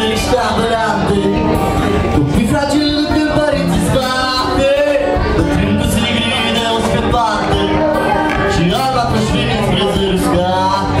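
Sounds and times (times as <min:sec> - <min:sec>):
acoustic guitar: 0:00.0 - 0:11.0
man singing into microphone: 0:00.0 - 0:11.0.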